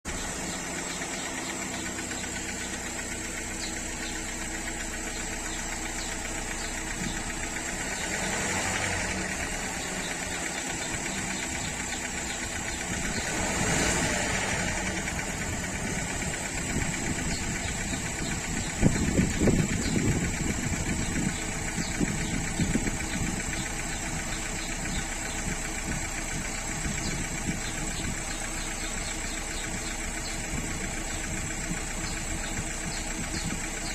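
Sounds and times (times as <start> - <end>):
car engine idling and revving: 0.0 - 33.9
engine knocking and rattling: 0.0 - 33.9.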